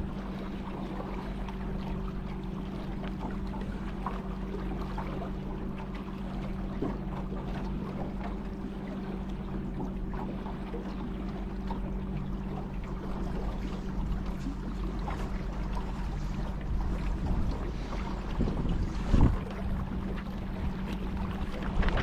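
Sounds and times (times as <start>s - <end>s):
steady low hum: 0.0s - 22.0s
water lapping and trickling: 0.0s - 22.0s.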